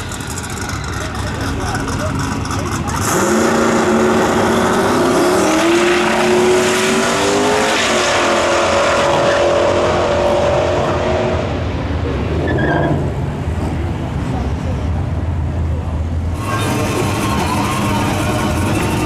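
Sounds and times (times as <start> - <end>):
drag car engine at full throttle: 0.0 - 14.1, 14.9 - 19.0.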